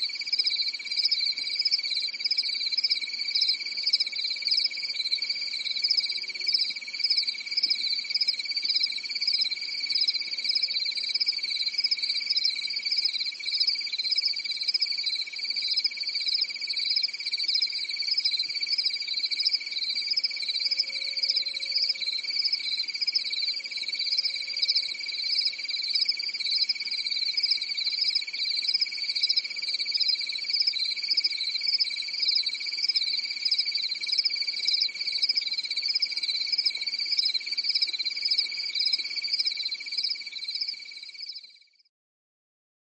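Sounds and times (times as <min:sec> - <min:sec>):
crickets chirping: 0:00.0 - 0:41.4.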